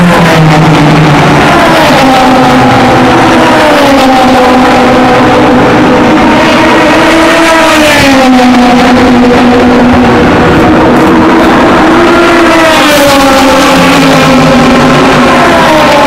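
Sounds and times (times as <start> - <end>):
race car engines running: 0.0 - 16.0.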